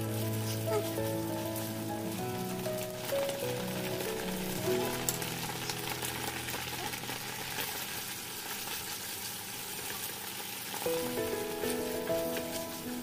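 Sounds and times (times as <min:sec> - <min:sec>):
sauce sizzling in frying pan: 0:00.0 - 0:13.0.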